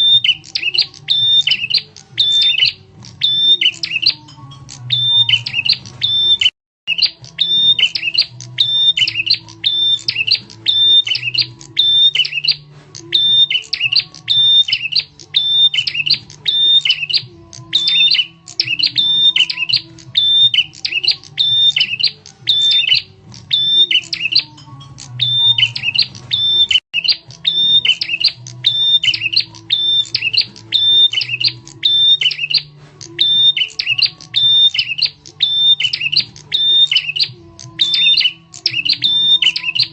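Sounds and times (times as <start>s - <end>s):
sharp bird chirping: 0.0s - 39.9s.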